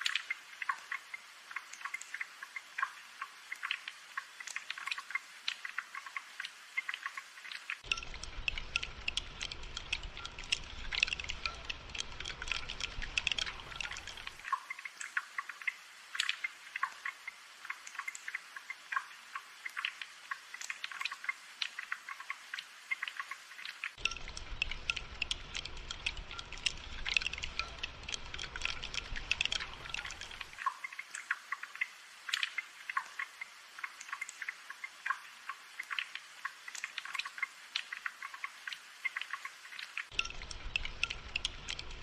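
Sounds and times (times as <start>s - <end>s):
light rain patter: 0.0s - 42.0s.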